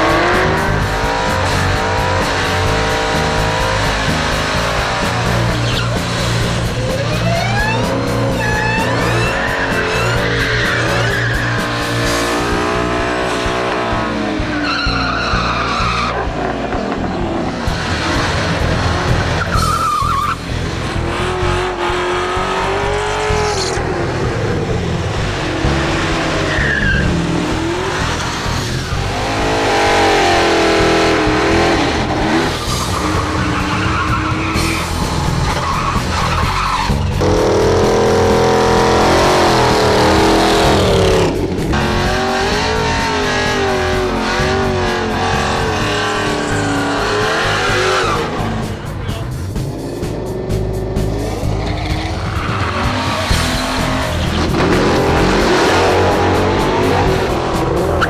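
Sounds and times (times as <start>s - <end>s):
tyre squeal: 0.0s - 20.6s, 22.4s - 49.5s
background music: 0.0s - 58.0s
car engines running hard: 0.0s - 58.0s.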